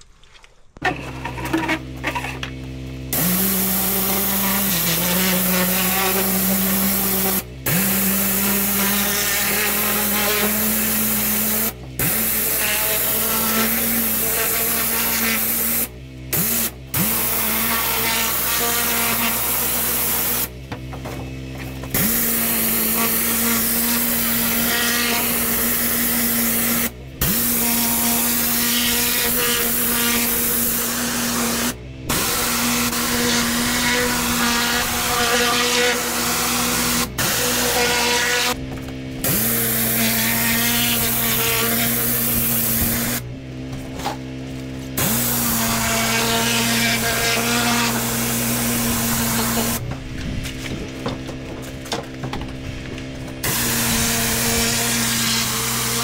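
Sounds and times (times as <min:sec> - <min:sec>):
motor drone: 0:00.8 - 0:56.0
pressure washer spraying: 0:03.1 - 0:20.6, 0:21.9 - 0:38.6, 0:39.2 - 0:43.2, 0:45.0 - 0:49.9, 0:53.4 - 0:56.0.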